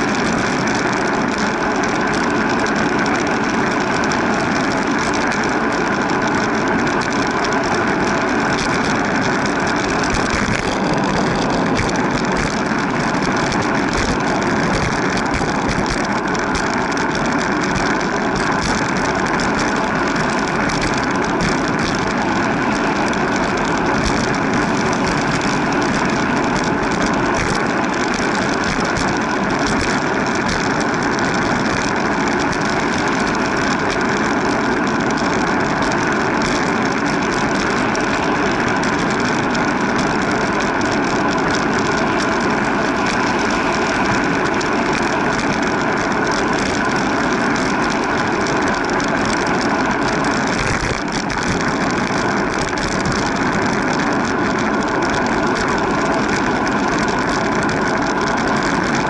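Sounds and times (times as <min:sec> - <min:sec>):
vehicle engine: 0:00.0 - 0:59.0
wind noise: 0:00.0 - 0:59.0.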